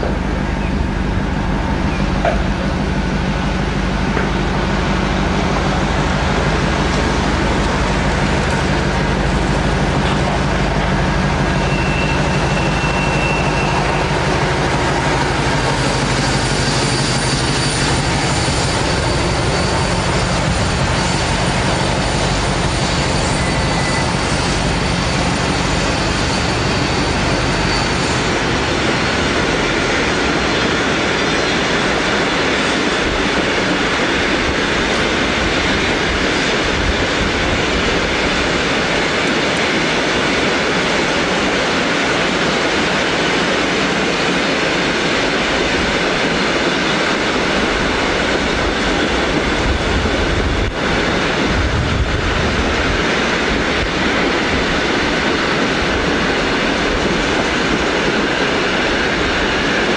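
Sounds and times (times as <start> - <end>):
diesel locomotive running: 0.0 - 59.9.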